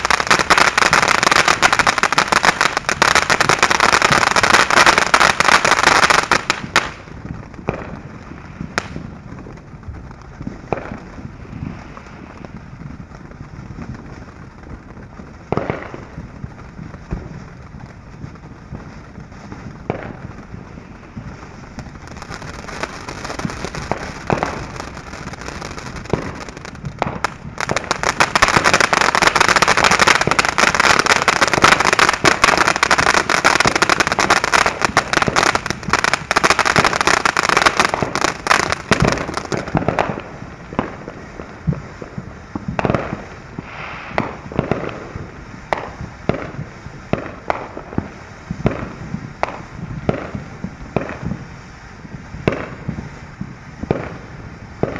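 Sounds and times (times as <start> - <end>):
fountain firework hissing and crackling: 0.0 - 54.9.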